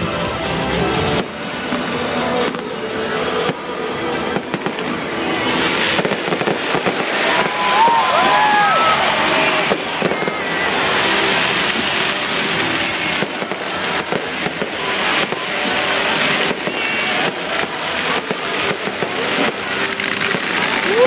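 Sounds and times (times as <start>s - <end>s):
fireworks bursting and crackling: 0.0s - 21.0s
firework whistles: 3.2s - 21.0s.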